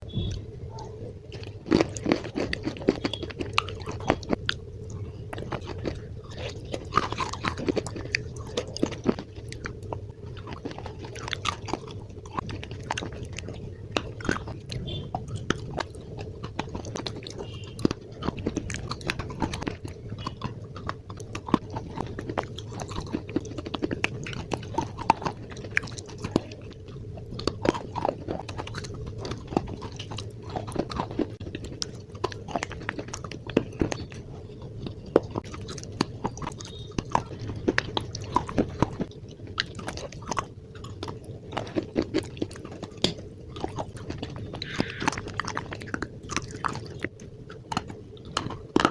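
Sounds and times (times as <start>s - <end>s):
slate being chewed with crunches: 0.1s - 48.9s.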